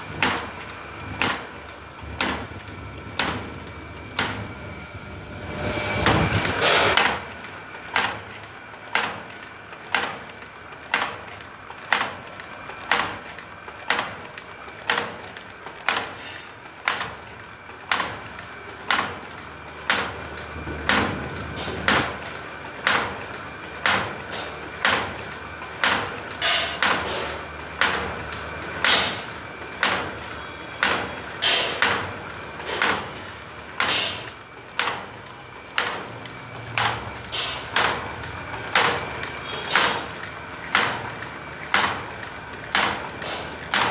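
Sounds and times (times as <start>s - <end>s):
steady high hum: 0.0s - 43.9s
wire forming machine clacking: 0.0s - 43.9s.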